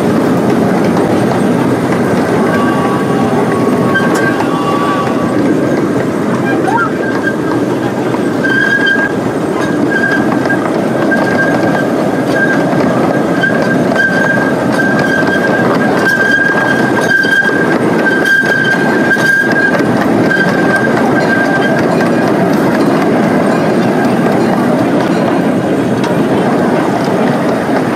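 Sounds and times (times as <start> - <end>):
rail joint clicks: 0.0 - 27.9
train wheels rumbling on rails: 0.0 - 27.9.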